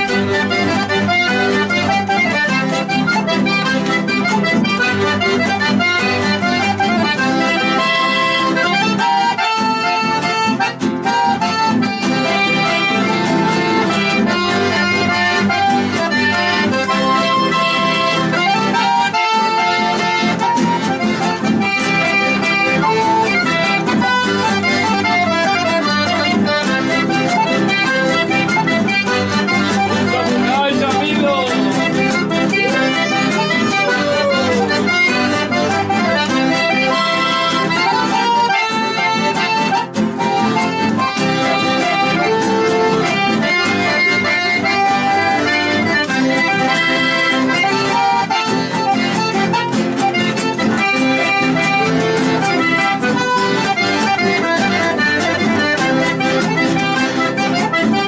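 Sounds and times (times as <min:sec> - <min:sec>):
accordion folk melody: 0:00.0 - 0:58.0.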